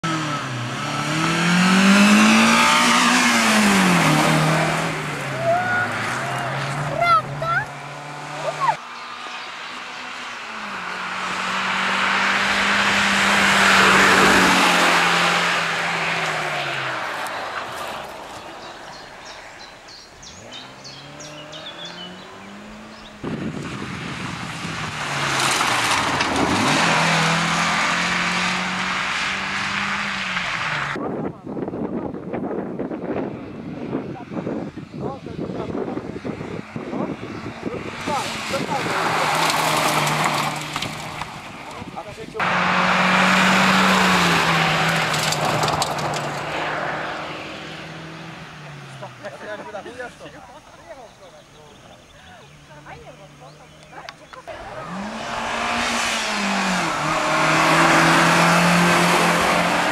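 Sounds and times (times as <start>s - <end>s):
car engine revving past: 0.0s - 31.0s, 35.6s - 50.4s, 51.4s - 59.9s
tyre and road noise: 0.0s - 59.9s.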